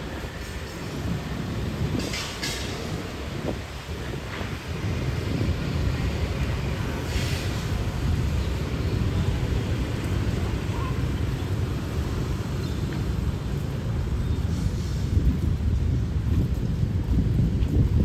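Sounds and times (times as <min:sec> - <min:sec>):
tyres hissing on wet road: 0:00.0 - 0:15.6
low rumble of traffic: 0:00.0 - 0:18.0.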